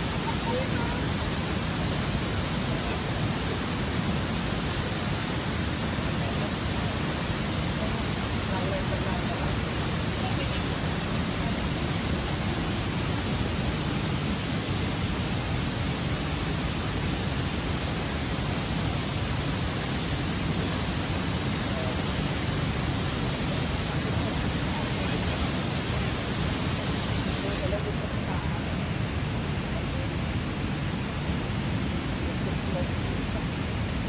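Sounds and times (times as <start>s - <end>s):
steady rushing noise: 0.0s - 34.0s.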